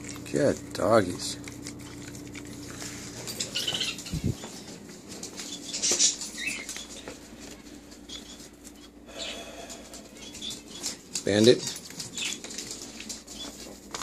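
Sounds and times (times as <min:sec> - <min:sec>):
dog claws pattering on wooden floor: 0:00.0 - 0:08.9, 0:10.1 - 0:14.0.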